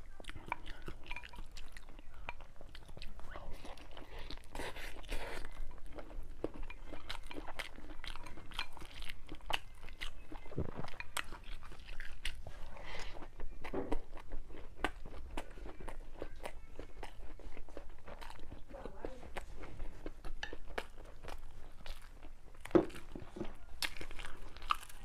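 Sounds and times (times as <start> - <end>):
person chewing crunchy food: 0.0 - 25.0.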